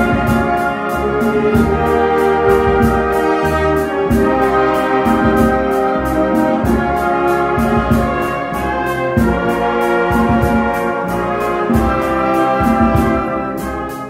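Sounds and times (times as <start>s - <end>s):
brass chords: 0.0s - 14.0s
concert band playing: 0.0s - 14.0s.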